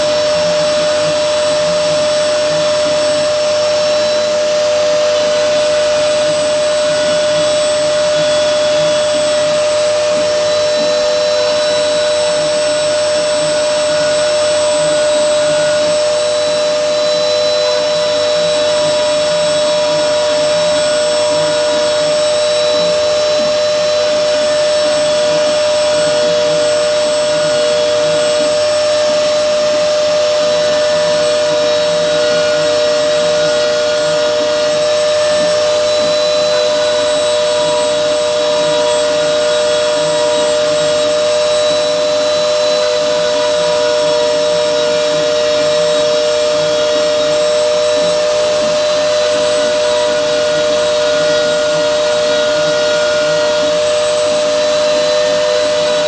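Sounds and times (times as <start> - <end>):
router spindle motor whine: 0.0 - 56.0
wavering machine tone: 0.0 - 56.0.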